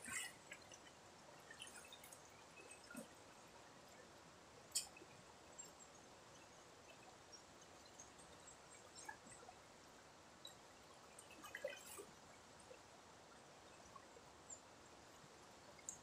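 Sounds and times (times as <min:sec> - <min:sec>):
river water trickling: 0:00.0 - 0:16.0
small drips and ticks: 0:00.0 - 0:16.0.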